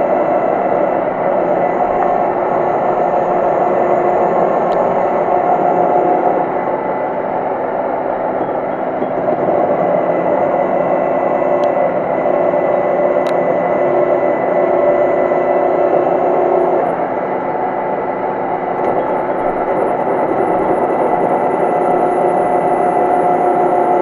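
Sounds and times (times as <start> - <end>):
metal lathe cutting: 0.0 - 24.0.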